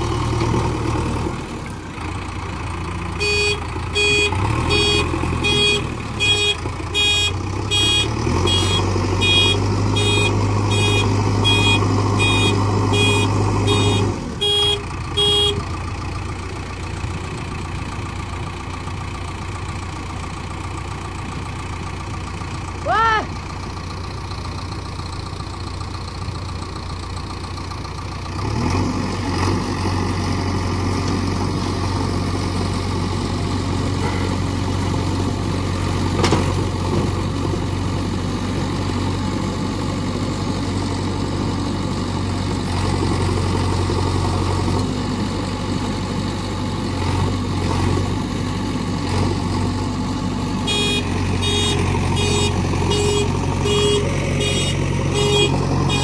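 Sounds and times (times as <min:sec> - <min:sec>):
backhoe diesel engine: 0:00.0 - 0:56.0.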